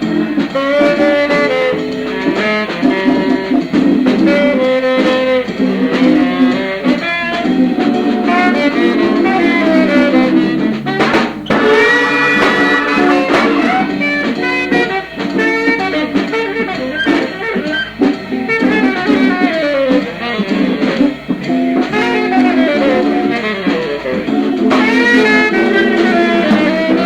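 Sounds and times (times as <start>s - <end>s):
jazz group playing slow ballad: 0.0s - 27.0s.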